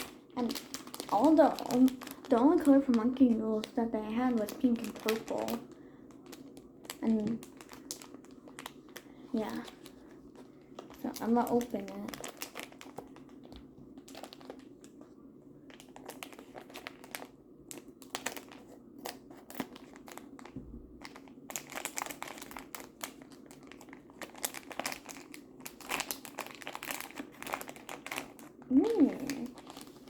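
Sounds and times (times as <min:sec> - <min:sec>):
packaging crackling and rustling: 0:00.0 - 0:30.0.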